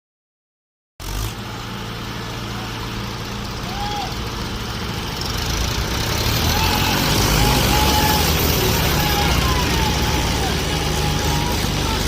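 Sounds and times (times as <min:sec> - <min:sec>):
tractor diesel engine running: 0:01.0 - 0:12.0.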